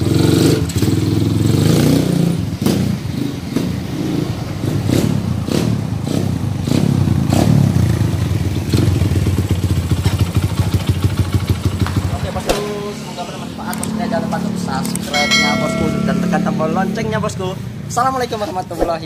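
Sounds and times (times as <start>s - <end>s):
motorcycle engine revving: 0.0s - 17.3s.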